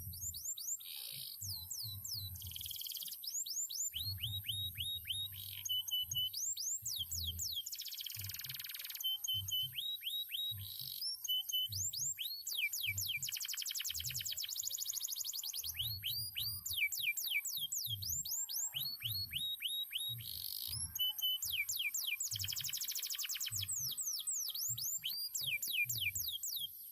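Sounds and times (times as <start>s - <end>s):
canary singing: 0.0s - 26.9s.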